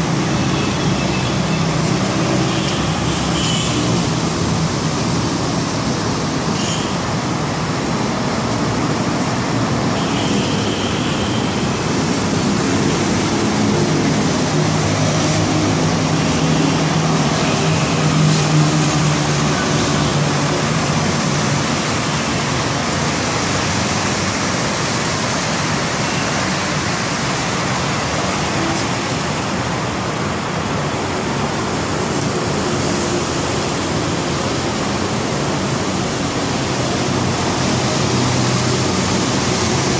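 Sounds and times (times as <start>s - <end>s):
road traffic noise: 0.0s - 39.9s.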